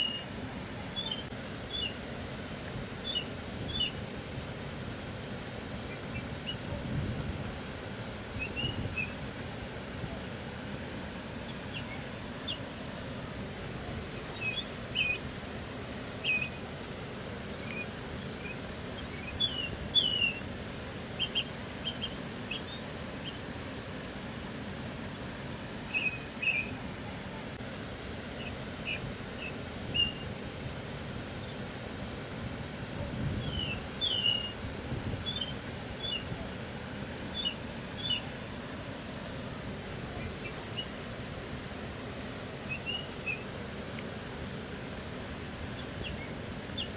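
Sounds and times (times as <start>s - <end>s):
songbirds chirping and trilling: 0.0s - 24.2s, 25.3s - 27.4s, 28.2s - 30.5s, 31.2s - 46.9s
steady low background hiss: 0.0s - 46.9s.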